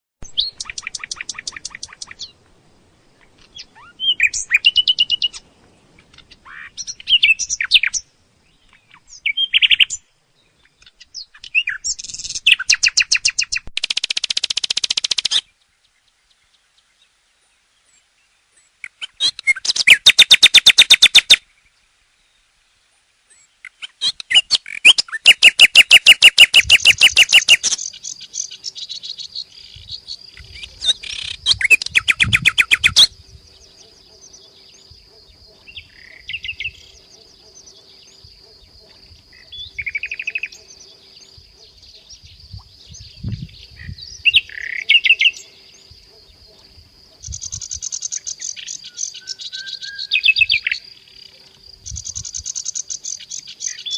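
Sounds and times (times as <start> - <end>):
nightingale singing: 0.2 - 22.6, 23.3 - 53.9.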